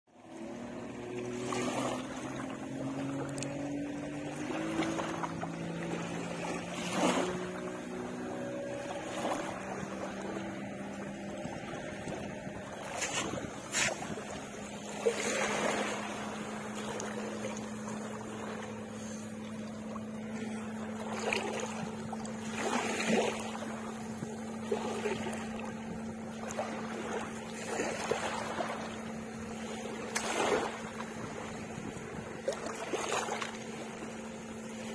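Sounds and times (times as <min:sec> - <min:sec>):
motor humming: 0:00.2 - 0:34.9.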